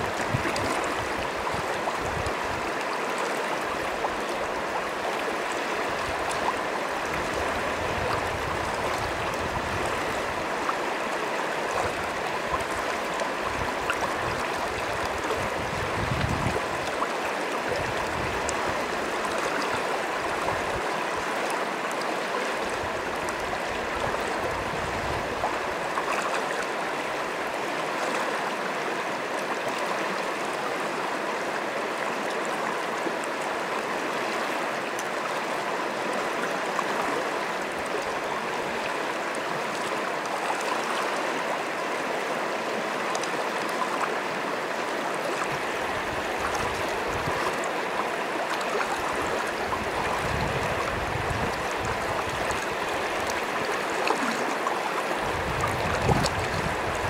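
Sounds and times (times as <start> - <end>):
river rushing over stones: 0.0 - 57.0.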